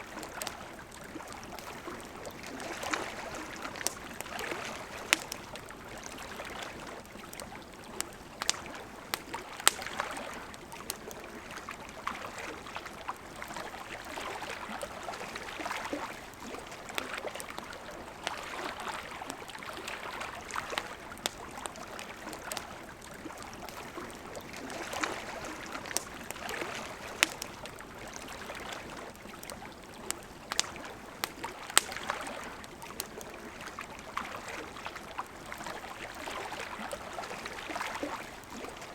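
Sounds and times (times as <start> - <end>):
campfire crackling and popping: 0.0 - 38.9
river water flowing: 0.0 - 38.9.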